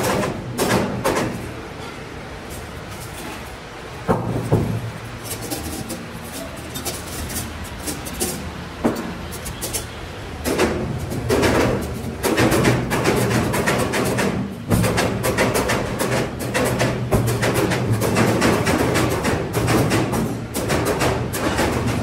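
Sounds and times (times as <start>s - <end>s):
steel wire panels clanking: 0.0s - 22.0s.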